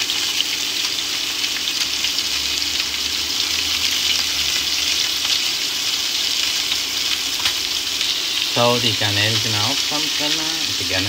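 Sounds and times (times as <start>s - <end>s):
fish and shrimp sizzling in oil: 0.0s - 11.0s.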